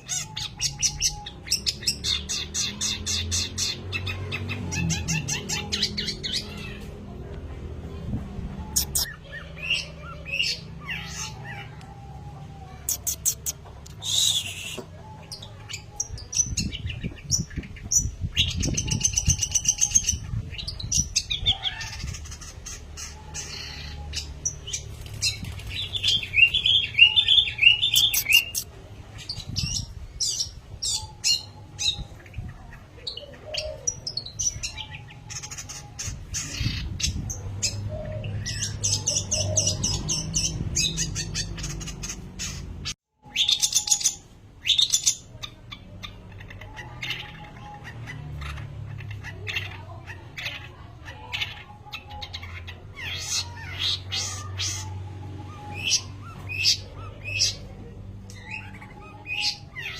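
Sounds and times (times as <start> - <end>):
bird singing: 0.0 - 7.3, 8.6 - 59.9.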